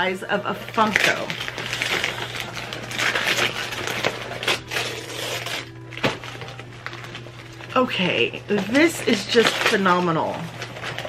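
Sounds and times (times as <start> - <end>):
gift wrapping paper tearing: 0.5 - 11.0.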